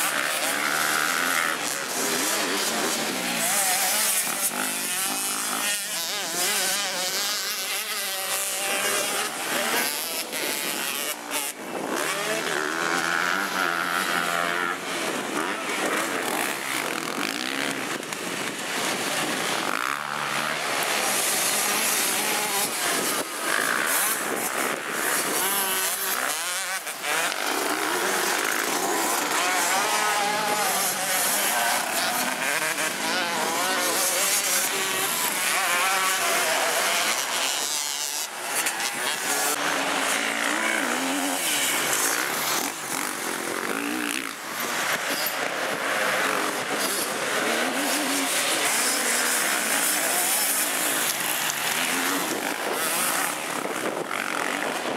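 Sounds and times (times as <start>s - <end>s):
dirt bike engines revving: 0.0s - 54.9s.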